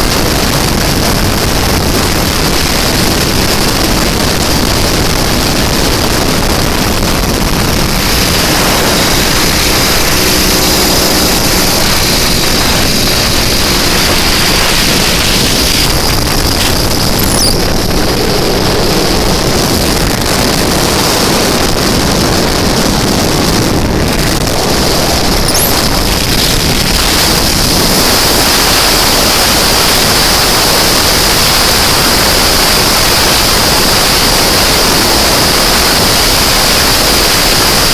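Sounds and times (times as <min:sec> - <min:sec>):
motorcycle engine running: 0:00.0 - 0:37.9
wind and road noise: 0:00.0 - 0:37.9.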